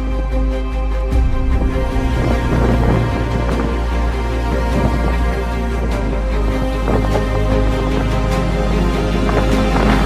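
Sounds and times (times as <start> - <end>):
instrumental music with sustained chords: 0.0 - 10.0.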